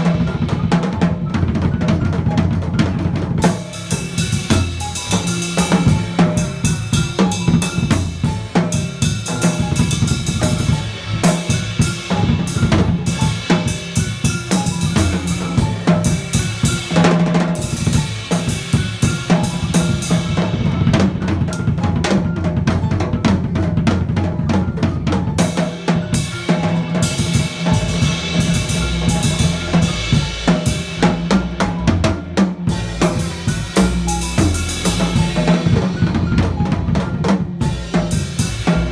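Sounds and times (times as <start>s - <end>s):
bass drum: 0.0s - 38.9s
upright bass notes: 0.0s - 38.9s.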